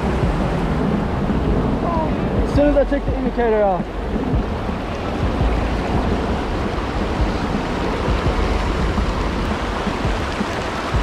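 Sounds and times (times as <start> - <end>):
low rumble of water: 0.0 - 11.0
river rushing over rocks: 0.0 - 11.0.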